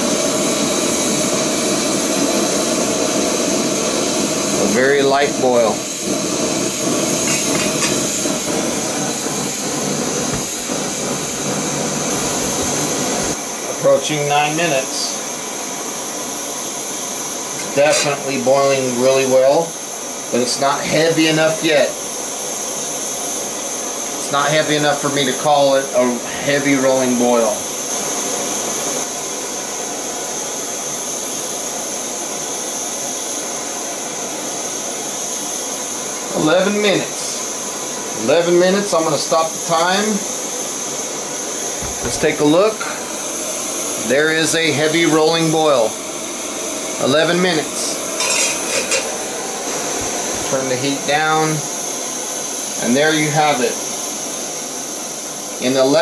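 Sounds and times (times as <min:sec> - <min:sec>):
camping stove burning: 0:00.0 - 0:56.0.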